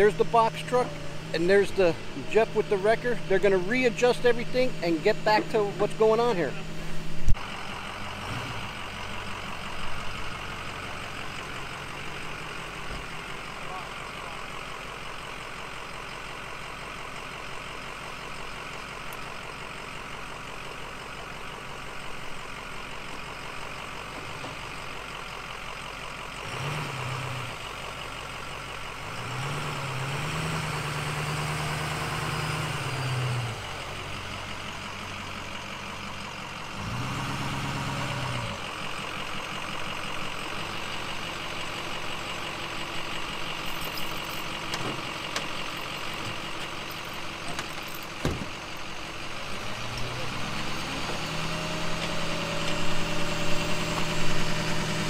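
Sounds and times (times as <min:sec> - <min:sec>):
truck engine idling and revving: 0:00.0 - 0:55.0.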